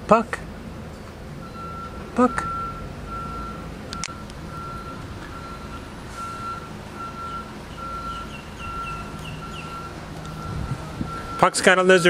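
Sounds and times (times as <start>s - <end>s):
low engine rumble: 0.0s - 12.0s
electronic beep: 1.4s - 11.5s.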